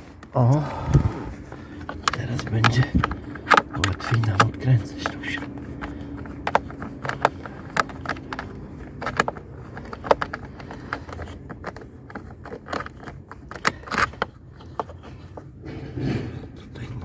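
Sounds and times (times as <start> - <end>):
tool being handled: 0.0 - 16.4
clicks and taps of plastic parts: 0.9 - 15.4.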